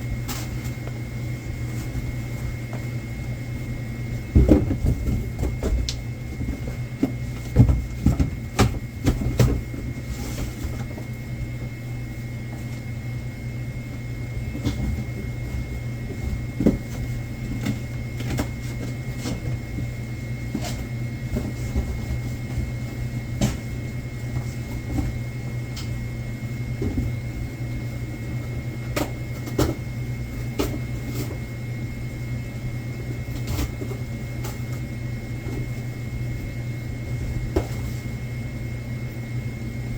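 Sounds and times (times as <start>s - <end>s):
electrical hum with high whine: 0.0s - 39.9s.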